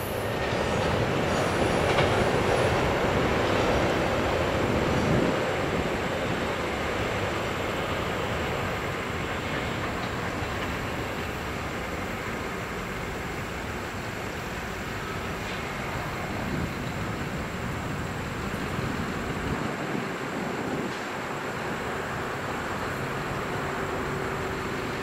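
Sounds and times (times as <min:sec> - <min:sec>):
train wheels on rail: 0:00.0 - 0:25.0.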